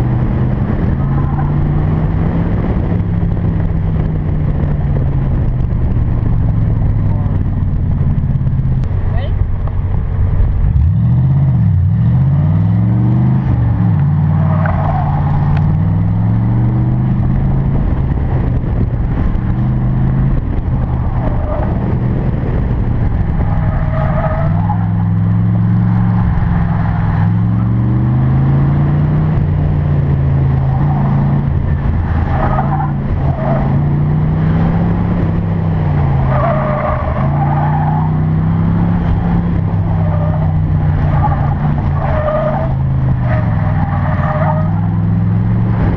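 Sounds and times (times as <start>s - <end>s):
car engine accelerating and shifting: 0.0s - 45.9s.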